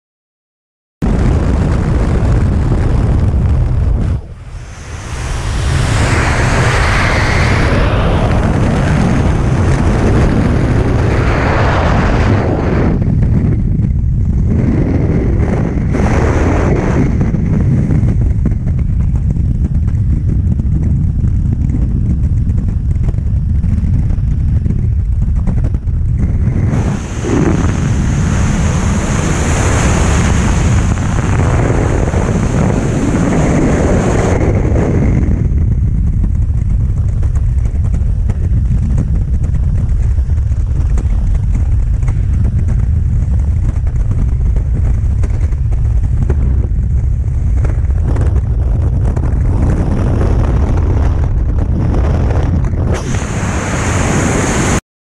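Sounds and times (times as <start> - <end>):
wind buffeting microphone: 1.0 - 54.8.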